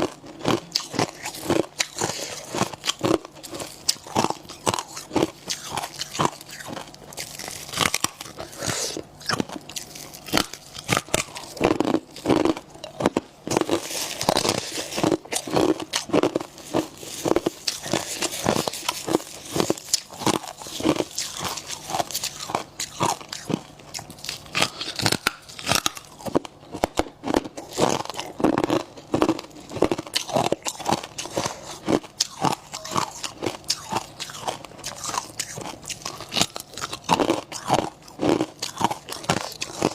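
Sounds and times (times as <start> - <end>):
frost and ice crunching: 0.0 - 39.9.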